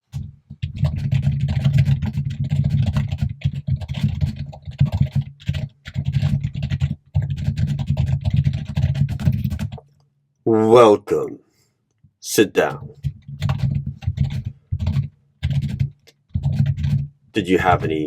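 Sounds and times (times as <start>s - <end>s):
fast typing on computer keyboard: 0.1s - 9.9s, 12.9s - 18.0s.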